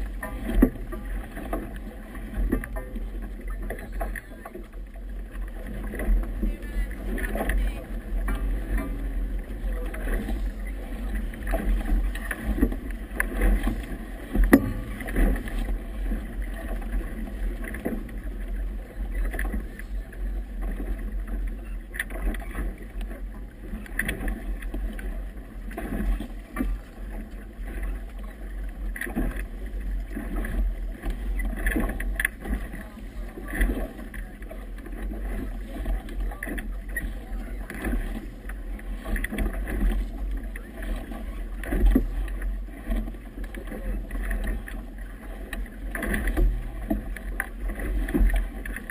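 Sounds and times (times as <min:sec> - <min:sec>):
water slapping against hull: 0:00.0 - 0:48.9.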